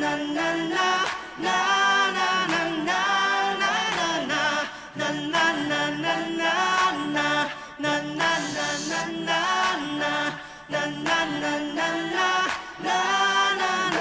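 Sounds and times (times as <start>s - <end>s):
man singing a pop ballad: 0.0s - 14.0s.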